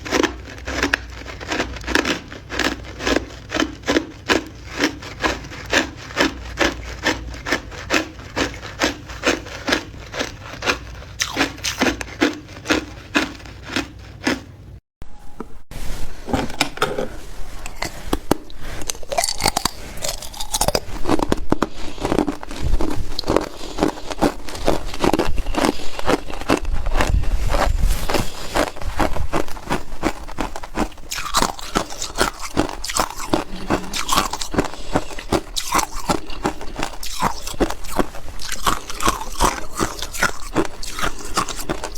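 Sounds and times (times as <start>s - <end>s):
ice being chewed: 0.0s - 14.6s, 16.2s - 41.9s.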